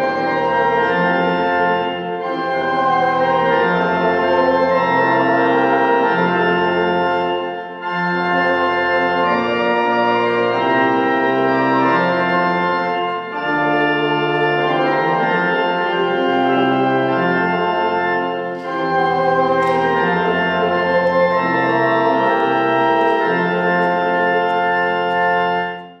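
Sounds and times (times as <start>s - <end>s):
church organ chords: 0.0s - 26.0s.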